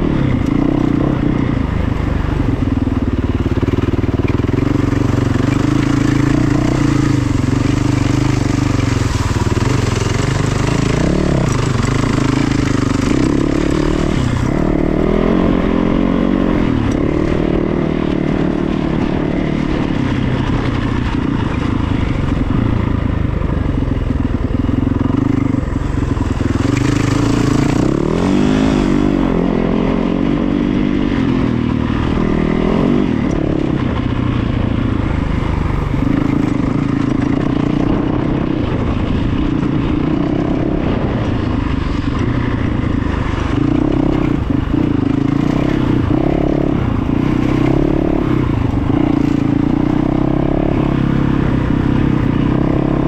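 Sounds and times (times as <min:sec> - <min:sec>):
engine running: 0:00.0 - 0:53.0.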